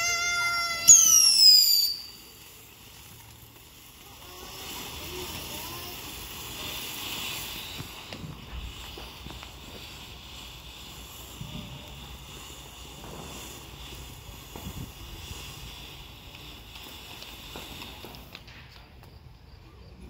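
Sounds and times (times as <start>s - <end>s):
firework fountain hissing: 0.0s - 20.0s.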